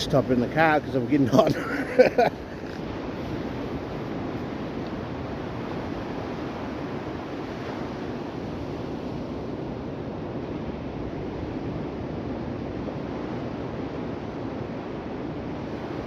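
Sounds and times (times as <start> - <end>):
ocean surf rushing: 0.0 - 16.0.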